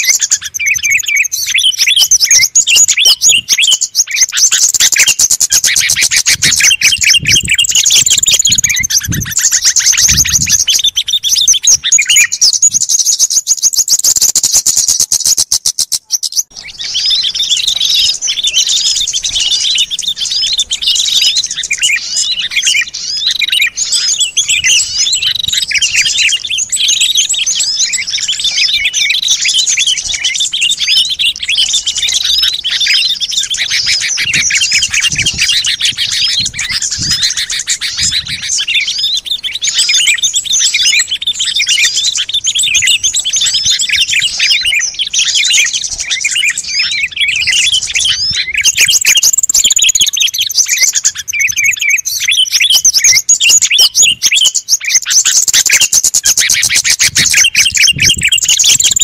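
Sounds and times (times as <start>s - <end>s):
small songbirds chirping and twittering: 0.0s - 59.0s.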